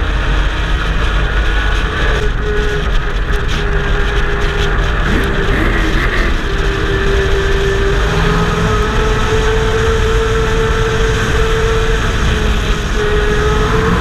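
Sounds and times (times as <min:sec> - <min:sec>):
racing truck engine running hard: 0:00.0 - 0:14.0
wind and road rush: 0:00.0 - 0:14.0.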